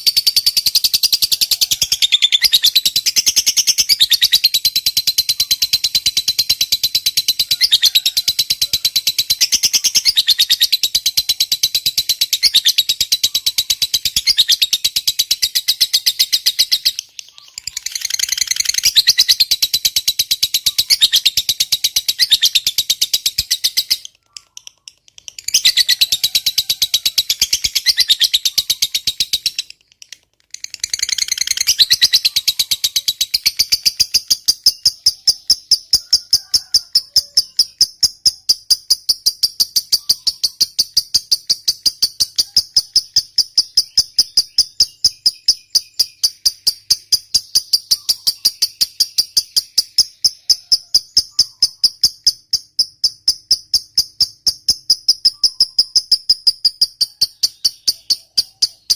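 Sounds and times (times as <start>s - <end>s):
lovebird high-pitched trill: 0.0s - 29.8s, 30.6s - 58.9s.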